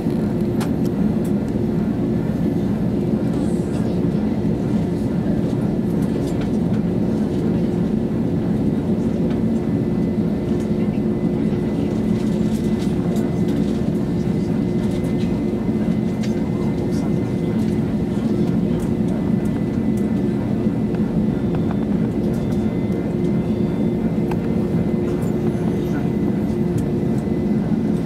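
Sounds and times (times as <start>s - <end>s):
jet engines droning in cabin: 0.0s - 28.0s.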